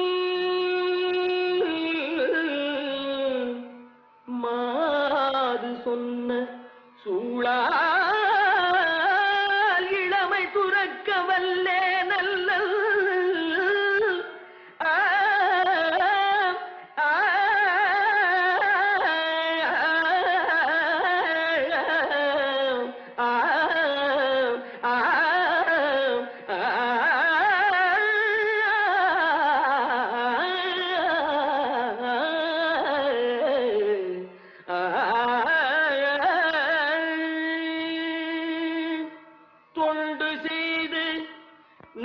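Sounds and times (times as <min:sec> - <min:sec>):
person singing ornamented melody: 0:00.0 - 0:42.0.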